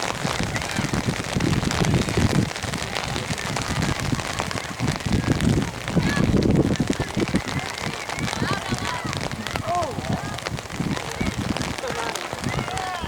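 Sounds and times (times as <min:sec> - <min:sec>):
drops hitting close to microphone: 0:00.0 - 0:12.9
steady rain falling: 0:00.0 - 0:13.0.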